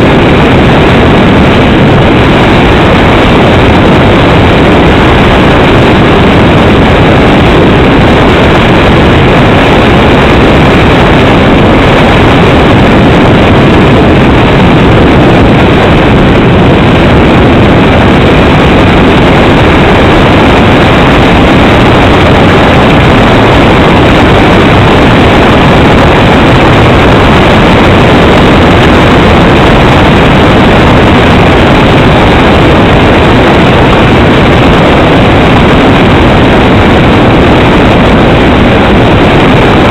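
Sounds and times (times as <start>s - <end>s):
aircraft engine: 0.0s - 39.9s
rushing airflow: 0.0s - 39.9s.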